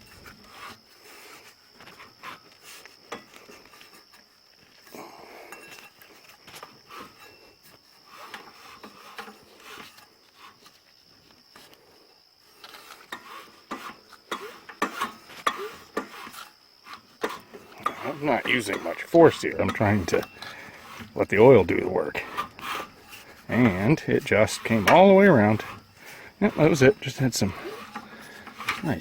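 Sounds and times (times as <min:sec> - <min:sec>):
faint clicks and scrapes: 0:00.0 - 0:29.0.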